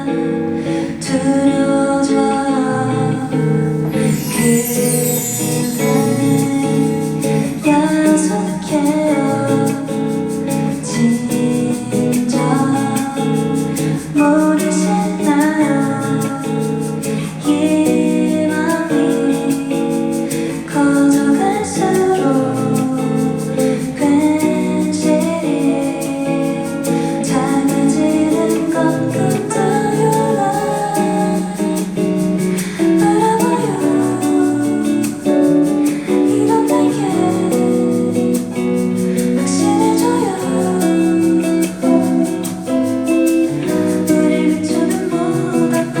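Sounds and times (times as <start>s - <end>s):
guitar playing: 0.0s - 46.0s
person singing: 0.0s - 46.0s.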